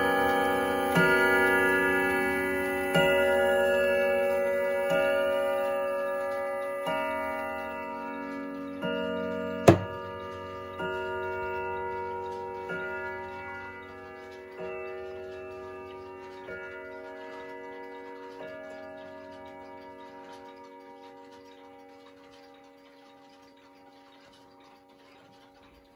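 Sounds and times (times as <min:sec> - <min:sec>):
clock chime strikes ringing: 0:00.0 - 0:25.9.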